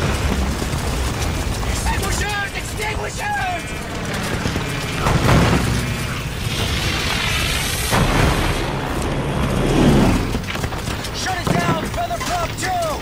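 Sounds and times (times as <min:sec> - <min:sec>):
low drone of bomber engines: 0:00.0 - 0:11.1
shells exploding in heavy booms: 0:00.0 - 0:12.5.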